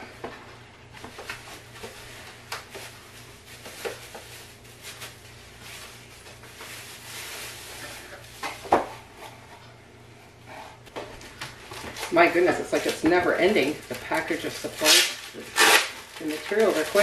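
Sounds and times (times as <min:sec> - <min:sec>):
paper and plastic rustling: 0:00.1 - 0:09.6, 0:10.9 - 0:17.0.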